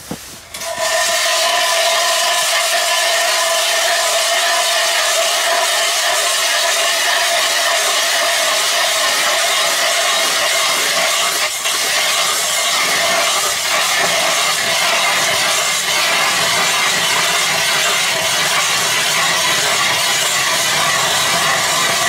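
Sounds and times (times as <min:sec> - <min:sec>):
ice auger grinding into ice: 0:00.5 - 0:22.0.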